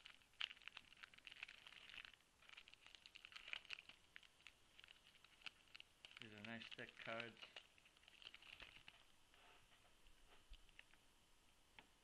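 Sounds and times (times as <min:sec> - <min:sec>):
wrapper crinkling: 0:00.0 - 0:09.2, 0:10.2 - 0:11.0.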